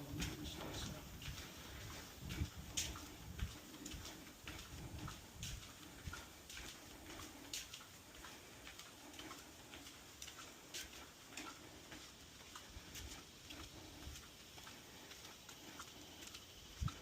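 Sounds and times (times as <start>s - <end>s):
faint footsteps: 0.0s - 17.0s.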